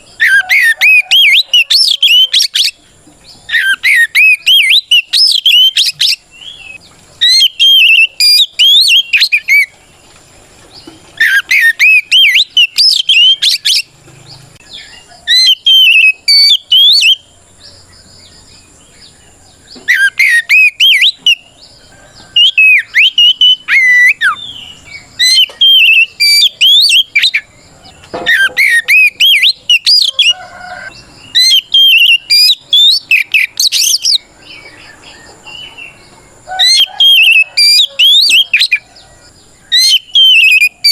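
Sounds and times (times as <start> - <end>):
bird singing whistles: 0.0 - 2.8, 3.5 - 9.7, 11.2 - 13.9, 14.7 - 17.3, 19.8 - 21.5, 22.2 - 27.5, 28.3 - 38.8, 39.7 - 40.9.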